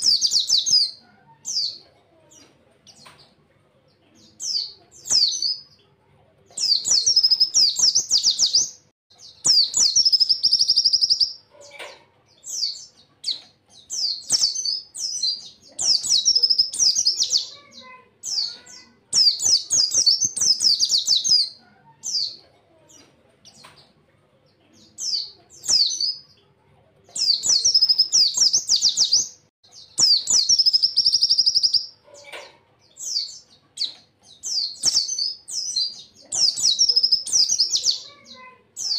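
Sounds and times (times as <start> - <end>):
bird singing chattering trills: 0.0 - 3.4, 6.5 - 11.8, 12.4 - 22.4, 24.6 - 38.9.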